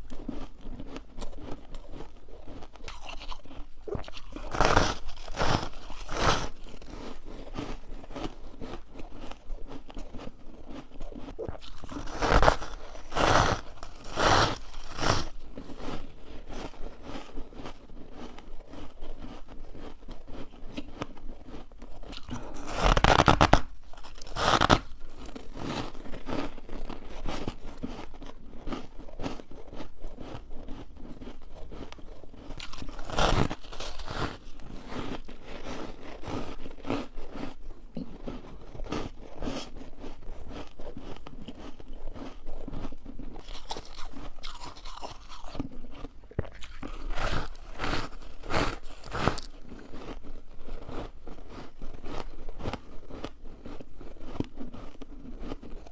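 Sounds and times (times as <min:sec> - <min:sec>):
crunching ice while chewing: 0:00.0 - 0:55.9
quiet crackling chewing: 0:00.0 - 0:55.9.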